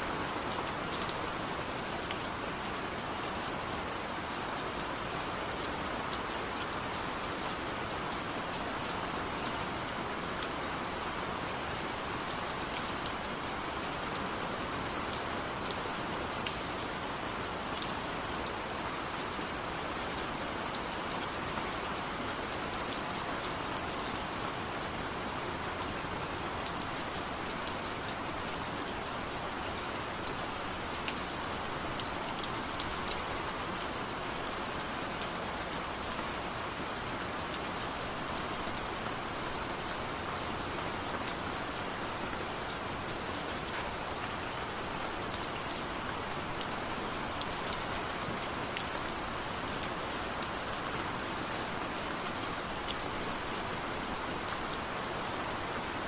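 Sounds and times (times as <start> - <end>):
steady rain hiss: 0.0 - 56.0
rain drops ticking: 0.1 - 56.0.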